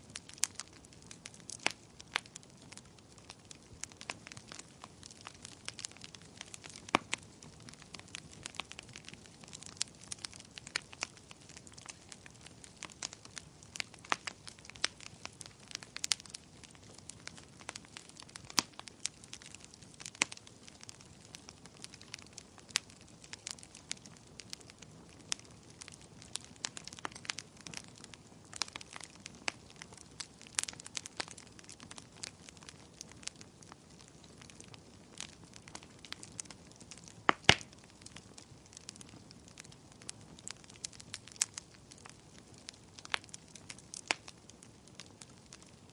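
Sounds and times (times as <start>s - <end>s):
wood crackling and popping: 0.0s - 45.9s.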